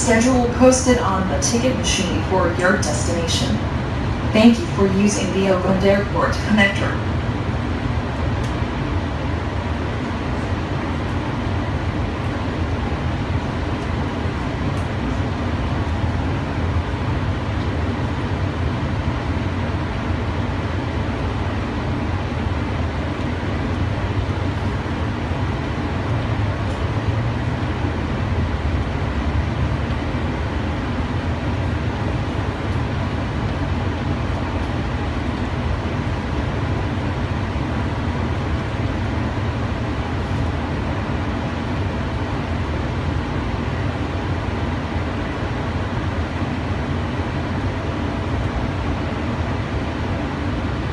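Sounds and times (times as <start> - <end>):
people-mover car low rumble: 0.0 - 50.9.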